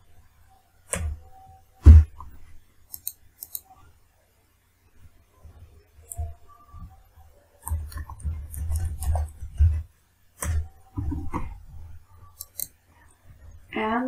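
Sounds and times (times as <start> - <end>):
mouse clicking and scrolling: 0.8 - 4.0, 5.4 - 13.6.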